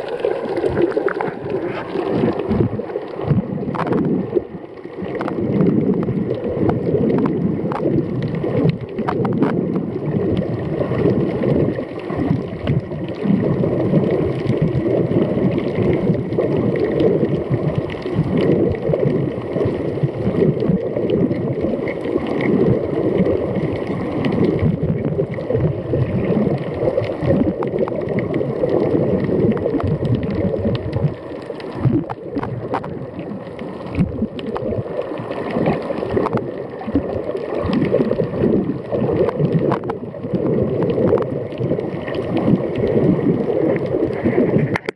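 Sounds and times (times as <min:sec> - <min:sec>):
underwater water gurgling: 0:00.0 - 0:44.9.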